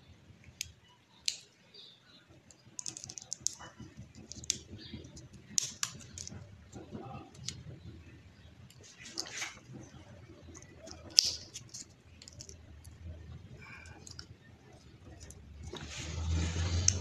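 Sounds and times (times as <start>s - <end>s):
small clicks and crackles: 0.3s - 17.0s.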